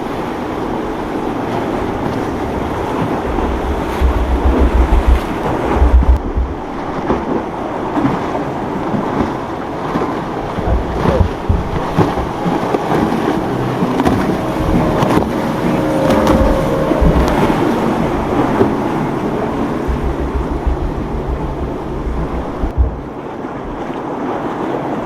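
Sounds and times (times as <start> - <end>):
motorboat engines running: 0.0 - 25.0
wind buffeting microphone: 0.0 - 25.0.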